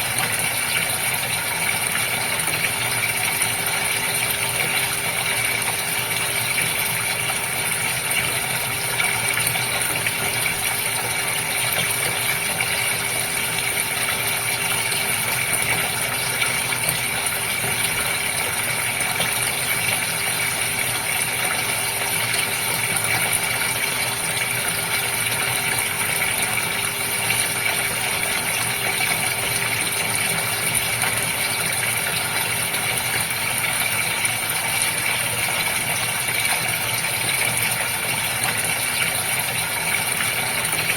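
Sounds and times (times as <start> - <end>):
aquarium water splashing: 0.0 - 40.9
pump humming: 0.0 - 40.9.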